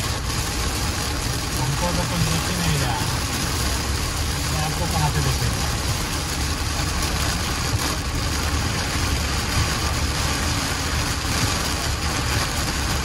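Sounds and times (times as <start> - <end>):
heavy rain on car windshield: 0.0 - 13.0
tyres rumbling on wet road: 0.0 - 13.0.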